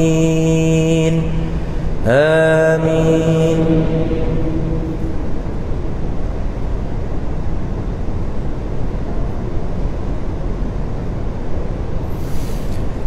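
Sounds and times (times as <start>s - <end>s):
low rumbling room noise: 0.0s - 13.0s.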